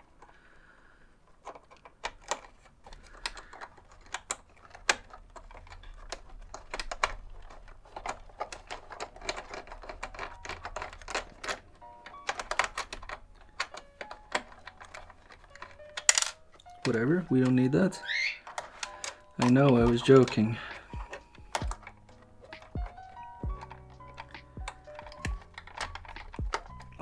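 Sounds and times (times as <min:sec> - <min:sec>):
plastic casing parts tapping: 0:01.2 - 0:27.0
screwdriver clicking: 0:01.4 - 0:27.0.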